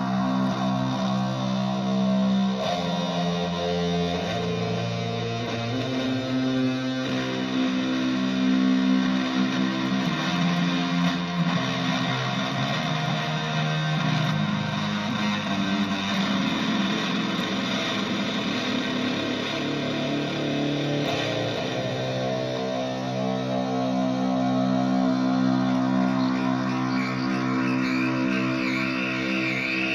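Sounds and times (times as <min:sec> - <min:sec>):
electric guitar ringing chords: 0:00.0 - 0:29.9.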